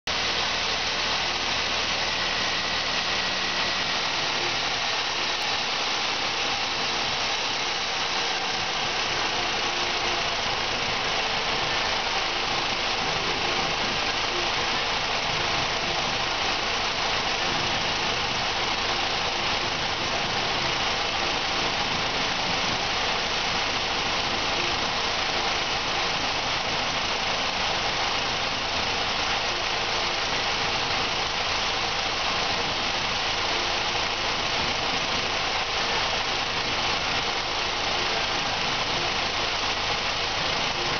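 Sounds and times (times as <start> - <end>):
car engine idling: 0.1 - 40.9.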